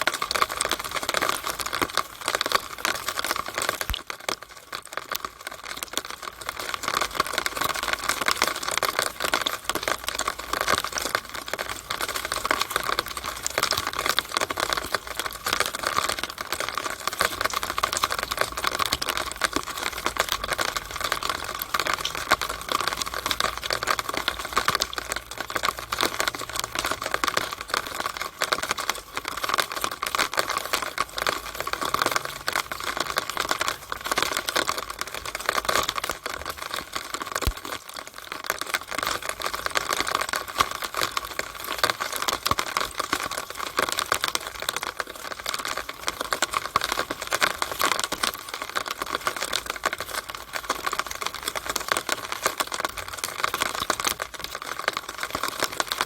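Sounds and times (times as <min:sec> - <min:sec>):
rainwater dripping from downspout: 0:00.0 - 0:56.0.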